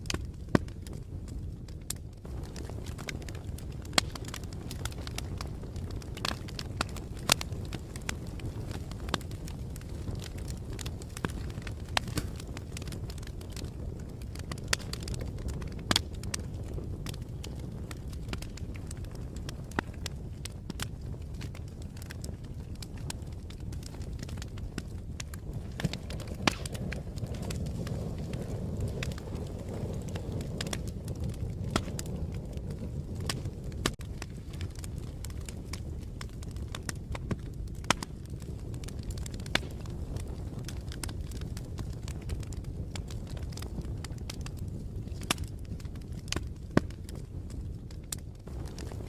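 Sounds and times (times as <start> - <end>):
fire crackling: 0.0 - 49.0
fire pops and snaps: 0.0 - 49.0.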